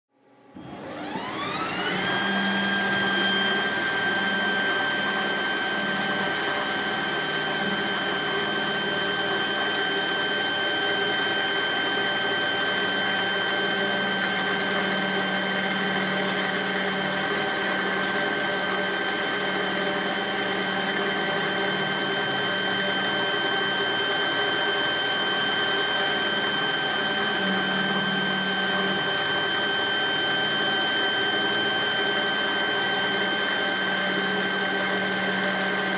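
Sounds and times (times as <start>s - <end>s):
lathe spindle high whine: 0.6s - 35.9s
low machine hum: 2.4s - 35.9s.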